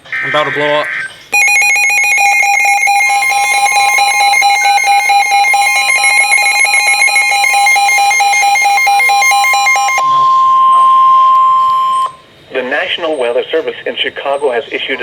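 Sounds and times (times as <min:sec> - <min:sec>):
warbling electronic alarm: 0:00.0 - 0:12.3
steady alarm tone: 0:00.0 - 0:12.4.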